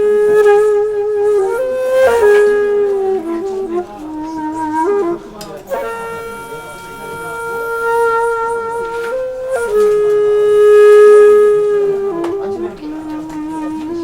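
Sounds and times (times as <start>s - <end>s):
flute-like wind instrument: 0.0s - 14.0s.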